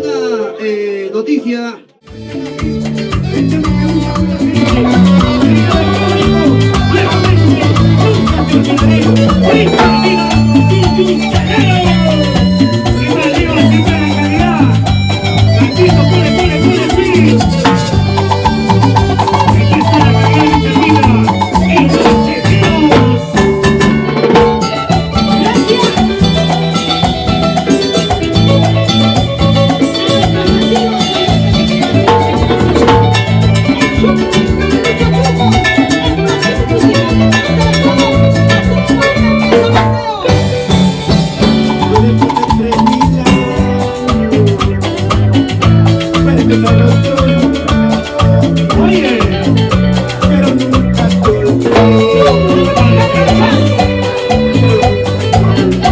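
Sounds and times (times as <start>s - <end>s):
live band playing salsa music: 0.0s - 55.9s
bass line: 1.9s - 55.9s
busy percussion: 2.0s - 55.9s.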